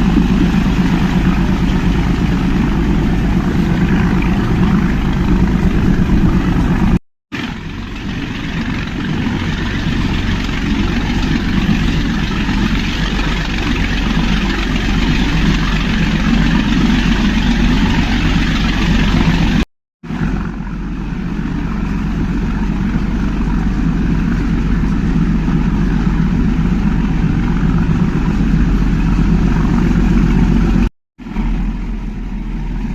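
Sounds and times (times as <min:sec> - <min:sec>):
train engine and wheels rumbling: 0:00.0 - 0:32.9.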